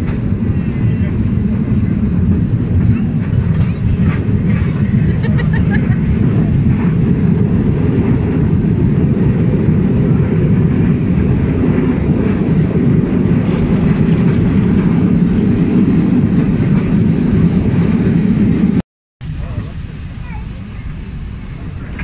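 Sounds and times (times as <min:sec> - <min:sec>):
train carriage rumbling on track: 0:00.0 - 0:22.0.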